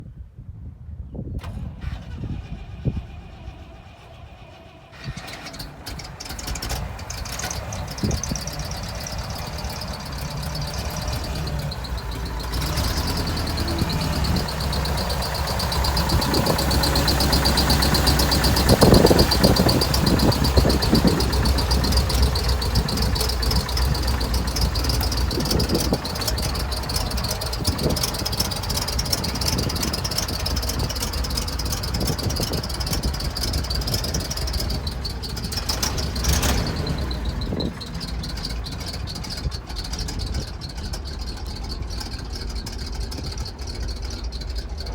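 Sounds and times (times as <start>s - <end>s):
truck engine rumbling: 1.3s - 44.9s.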